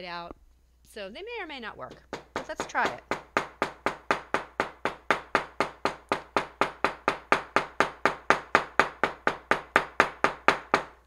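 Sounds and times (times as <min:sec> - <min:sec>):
small hammer pounding: 0:01.9 - 0:11.0.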